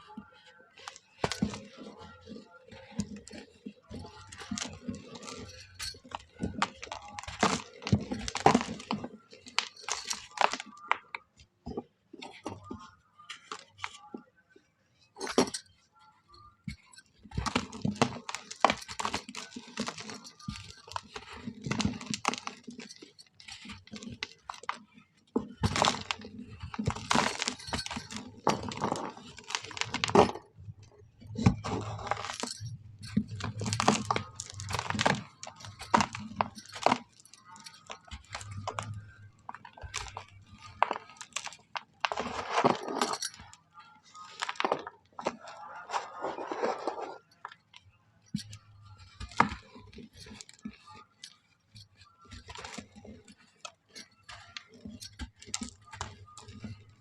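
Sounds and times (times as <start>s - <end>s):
dry mud crumbling in a bowl: 0.0s - 57.0s.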